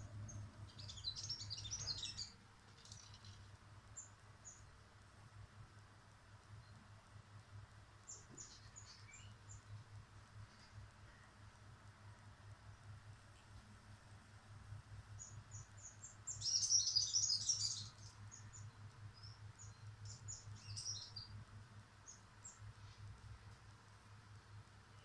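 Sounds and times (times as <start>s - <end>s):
small birds chirping: 0.0s - 5.1s, 5.9s - 14.1s, 14.8s - 25.0s.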